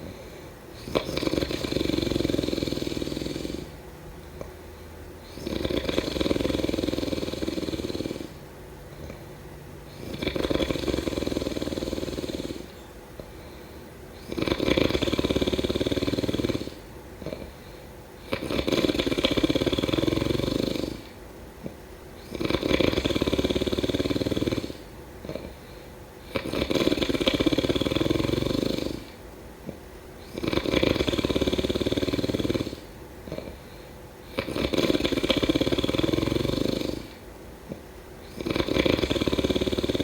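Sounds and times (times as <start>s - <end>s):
person snoring: 0.0s - 3.8s, 5.2s - 9.3s, 9.9s - 40.0s
quiet breathing: 0.0s - 40.0s.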